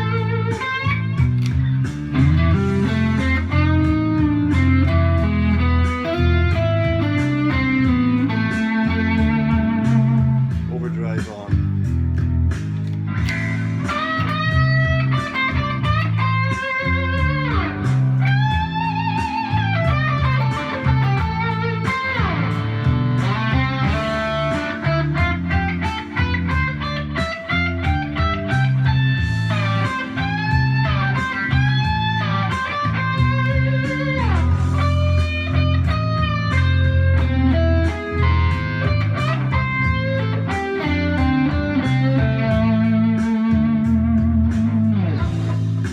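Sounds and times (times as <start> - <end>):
electric guitar blues lead: 0.0 - 45.9
low bass part: 0.0 - 45.9.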